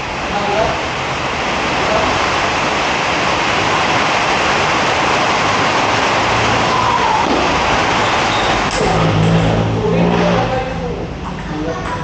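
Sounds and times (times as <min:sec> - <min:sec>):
loud rushing noise: 0:00.0 - 0:11.3.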